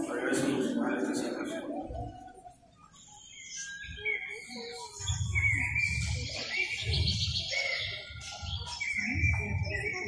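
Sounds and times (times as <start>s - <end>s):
birdsong over loudspeaker: 0.0s - 10.0s.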